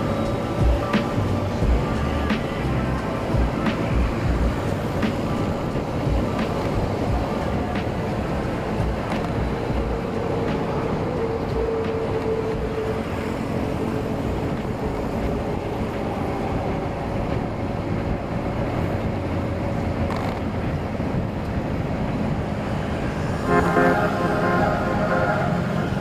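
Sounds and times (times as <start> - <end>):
wind and road noise: 0.0 - 26.0.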